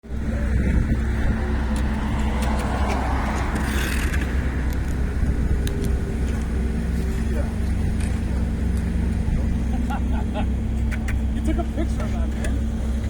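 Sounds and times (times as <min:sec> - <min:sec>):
heavy machinery engines droning: 0:00.0 - 0:13.0.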